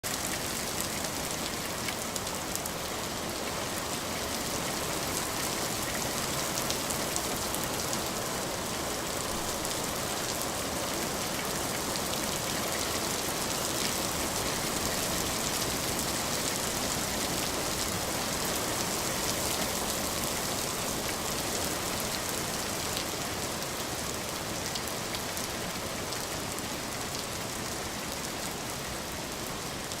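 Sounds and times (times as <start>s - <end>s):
steady rainfall hiss: 0.0s - 30.0s.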